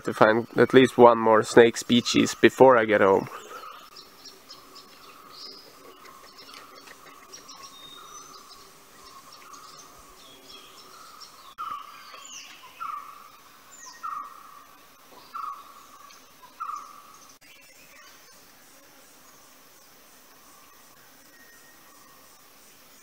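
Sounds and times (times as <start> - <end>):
forest birds chirping and whistling: 0.0 - 23.0.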